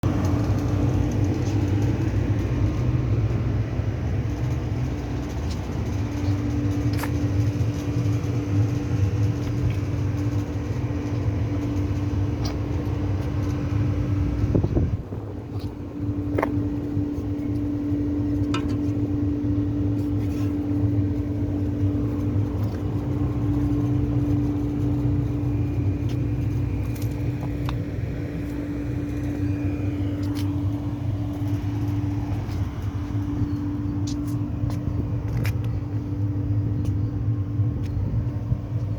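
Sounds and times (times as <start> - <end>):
machinery rumbling and humming: 0.0 - 38.9.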